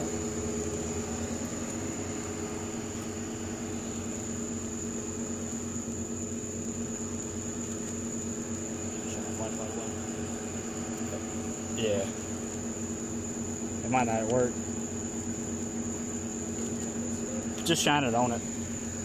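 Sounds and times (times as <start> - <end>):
mechanical hum with low tones: 0.0 - 19.0.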